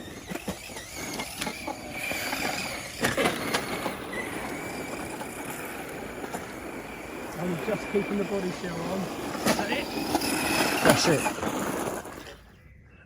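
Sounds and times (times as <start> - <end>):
toy truck clicks and knocks: 0.0 - 12.3
motor and gear whine: 0.0 - 12.5.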